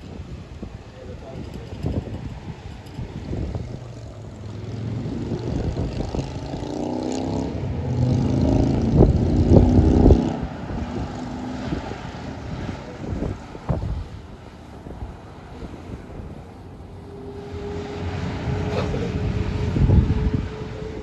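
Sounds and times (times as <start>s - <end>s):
motor vehicle passing: 3.0s - 21.0s.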